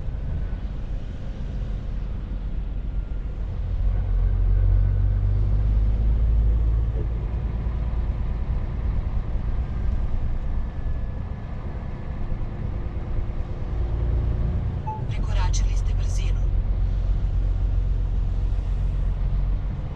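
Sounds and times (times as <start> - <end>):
truck diesel engine rumble: 0.0 - 19.9.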